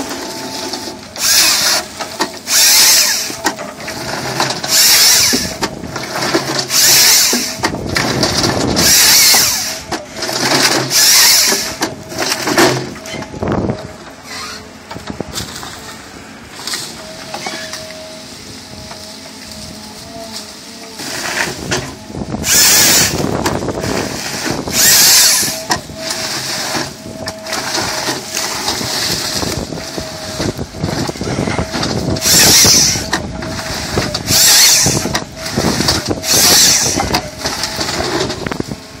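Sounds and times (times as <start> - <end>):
wood cutting machine running: 0.0 - 39.0.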